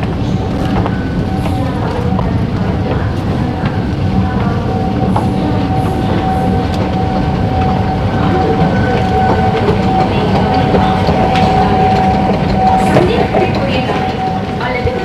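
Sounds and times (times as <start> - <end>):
constant high hum: 0.0 - 15.0
escalator mechanical rumble: 0.0 - 15.0.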